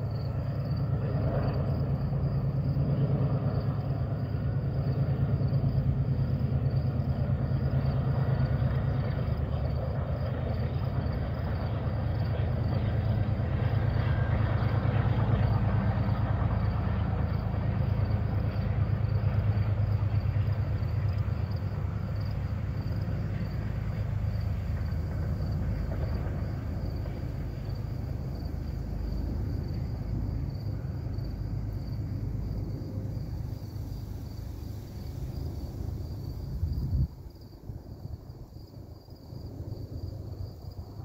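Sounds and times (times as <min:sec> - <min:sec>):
distant train rumble: 0:00.0 - 0:41.0.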